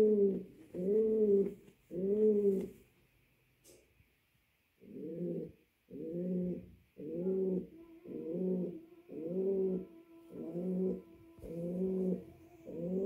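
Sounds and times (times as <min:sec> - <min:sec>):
pigeon cooing: 0:00.0 - 0:02.8, 0:04.8 - 0:13.0.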